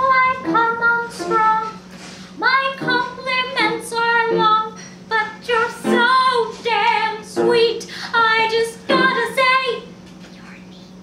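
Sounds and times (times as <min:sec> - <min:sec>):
woman singing: 0:00.0 - 0:01.8, 0:02.4 - 0:09.9
steady low hum: 0:00.0 - 0:11.0.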